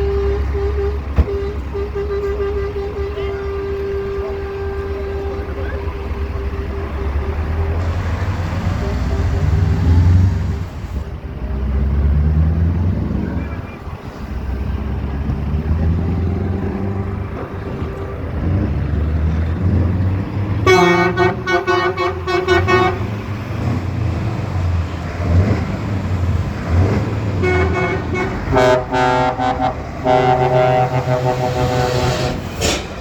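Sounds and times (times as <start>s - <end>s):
truck horn blasts: 0.0s - 10.7s, 14.7s - 33.0s
truck engines rumbling: 0.0s - 33.0s.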